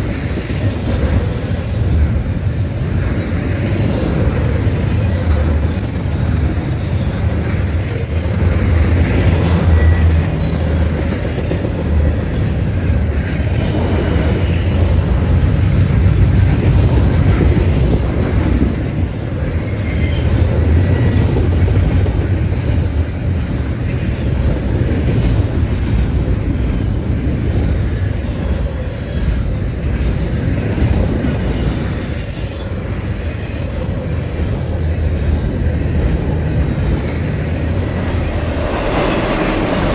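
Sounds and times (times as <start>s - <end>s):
train cars rumbling on rails: 0.0s - 39.9s
faint wheel squeals: 3.4s - 25.6s, 27.5s - 39.9s.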